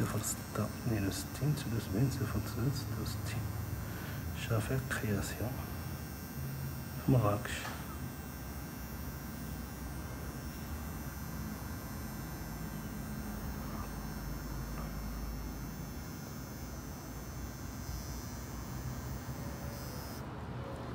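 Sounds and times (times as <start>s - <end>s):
tattoo machine humming: 0.0s - 20.9s.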